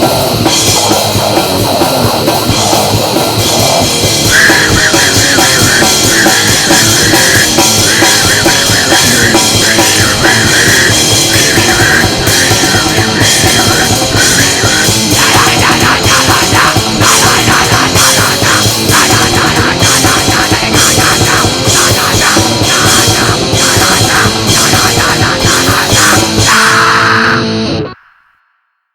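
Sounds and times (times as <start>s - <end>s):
rapid drum hits: 0.0s - 27.0s
distorted heavy rock music: 0.0s - 28.5s.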